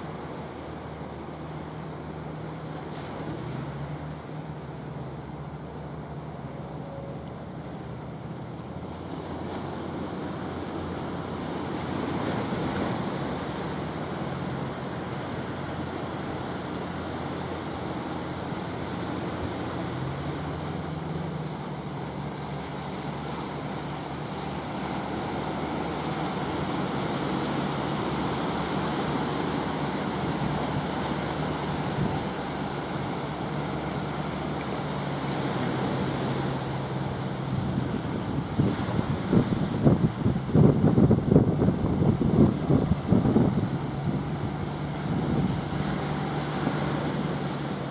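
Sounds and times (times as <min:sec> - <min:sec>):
boat engine running: 0:00.0 - 0:47.9
wind: 0:00.0 - 0:47.9.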